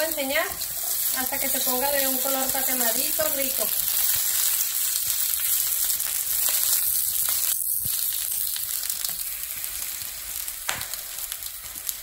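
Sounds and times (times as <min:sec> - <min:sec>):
food sizzling in pans: 0:00.0 - 0:12.0.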